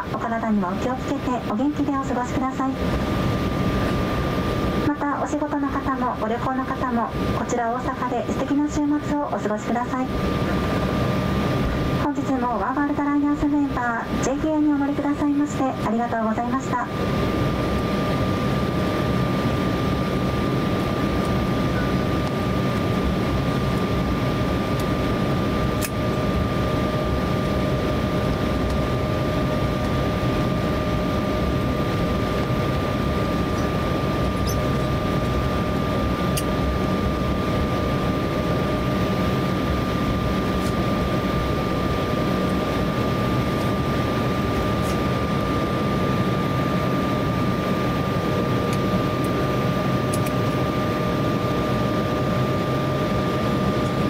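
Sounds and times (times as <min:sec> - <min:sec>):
high engine whine: 0:00.0 - 0:54.0.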